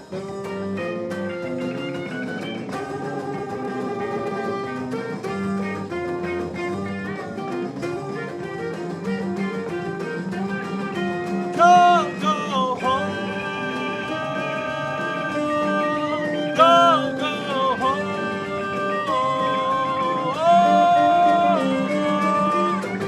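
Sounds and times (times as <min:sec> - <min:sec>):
rock band instrumental: 0:00.0 - 0:23.0.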